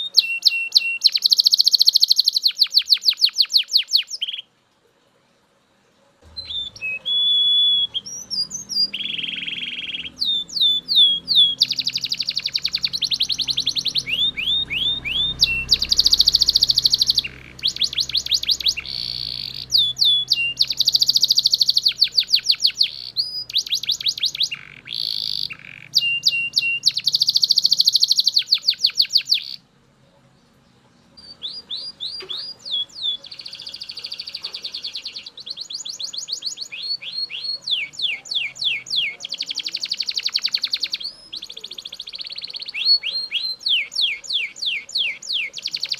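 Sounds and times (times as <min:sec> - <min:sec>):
canary singing trills: 0:00.0 - 0:04.5, 0:06.2 - 0:45.9.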